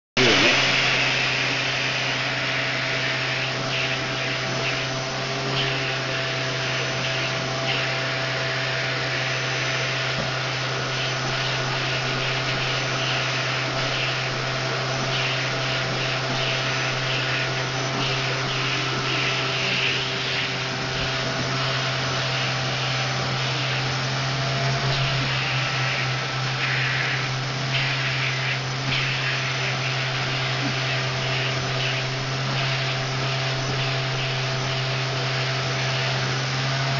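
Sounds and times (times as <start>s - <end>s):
vacuum cleaner motor hum: 0.2s - 36.9s
vacuum suction hiss on fur: 0.2s - 36.9s.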